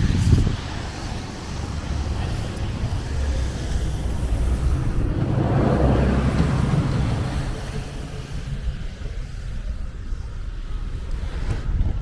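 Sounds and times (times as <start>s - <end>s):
truck engine droning: 0.1s - 11.2s.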